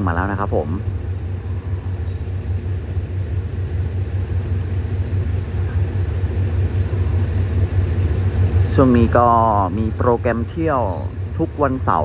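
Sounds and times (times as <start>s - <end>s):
low diesel train rumble: 0.0s - 12.0s.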